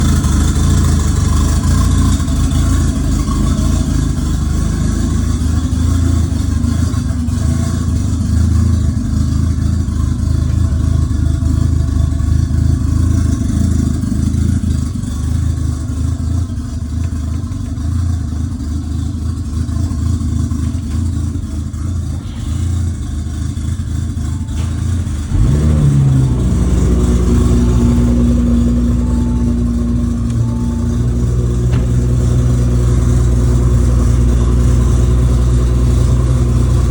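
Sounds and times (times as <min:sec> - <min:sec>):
car engine running loudly: 0:00.0 - 0:36.9.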